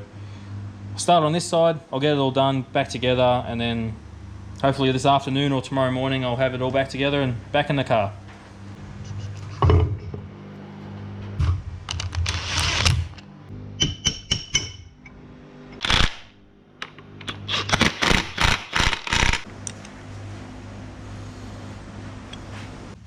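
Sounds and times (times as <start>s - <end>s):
low steady hum: 0.0s - 18.4s, 19.4s - 23.0s.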